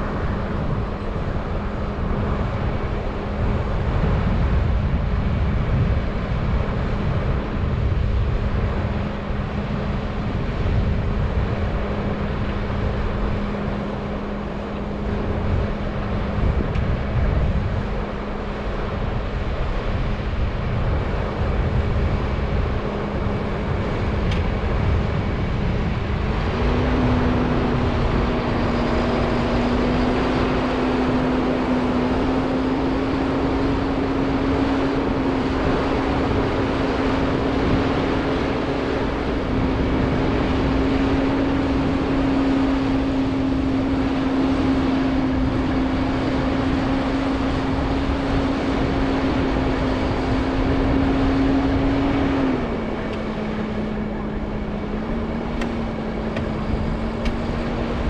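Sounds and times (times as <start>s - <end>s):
diesel machinery droning: 0.0s - 58.0s.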